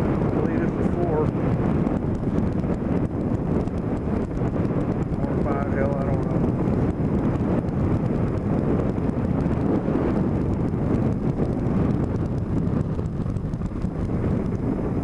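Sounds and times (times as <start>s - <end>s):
vehicle road noise: 0.0s - 15.0s
wind rush on microphone: 0.0s - 15.0s.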